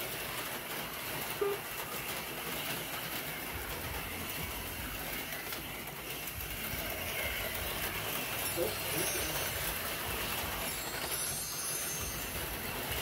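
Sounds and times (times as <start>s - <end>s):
small electric motors buzzing: 0.0s - 13.0s
toy cars rattling in track slots: 0.0s - 13.0s.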